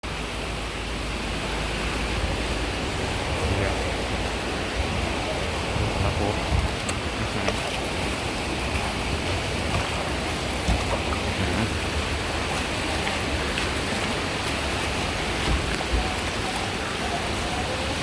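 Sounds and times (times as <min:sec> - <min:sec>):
rain falling: 0:00.0 - 0:18.0
low rumbling thumps: 0:01.0 - 0:14.3, 0:15.0 - 0:16.4.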